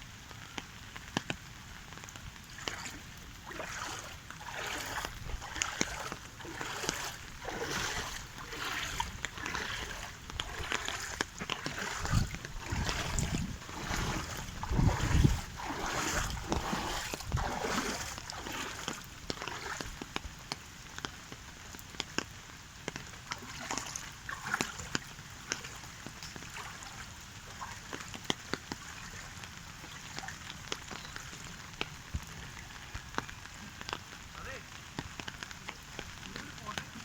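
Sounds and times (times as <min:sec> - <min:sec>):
rain on a hard surface: 0:00.0 - 0:37.0.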